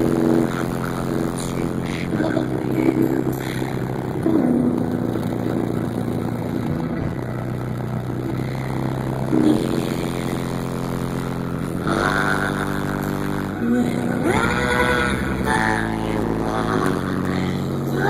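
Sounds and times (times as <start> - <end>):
bass-heavy song on car stereo: 0.0 - 18.0
higher pitched notes: 0.0 - 18.0.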